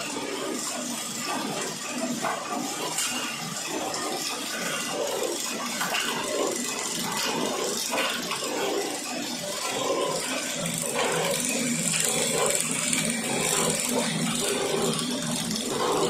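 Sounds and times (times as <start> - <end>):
wrapping machine running: 0.0 - 16.0.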